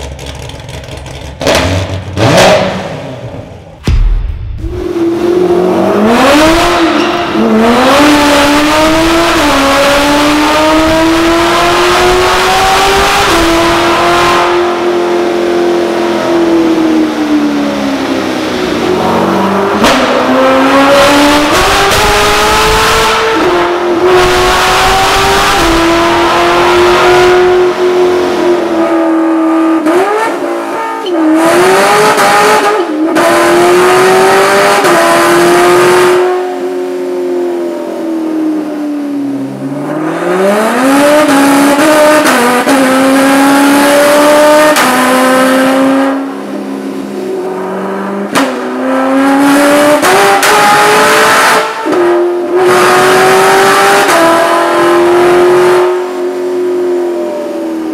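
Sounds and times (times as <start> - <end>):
loud car engine revving: 0.0 - 57.9.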